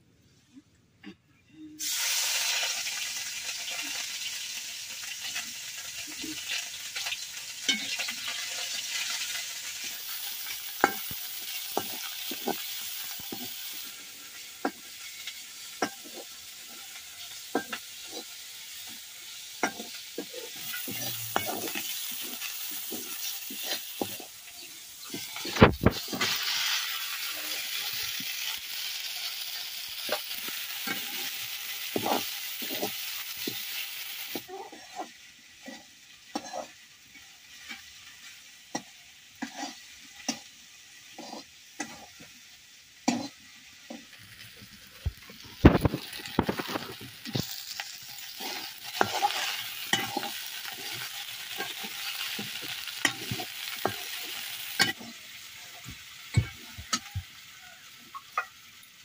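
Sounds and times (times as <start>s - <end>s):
oil sizzling in a pan: 1.8s - 59.0s
metal spoon scraping a pan: 6.1s - 42.3s, 43.0s - 44.2s, 45.2s - 57.2s.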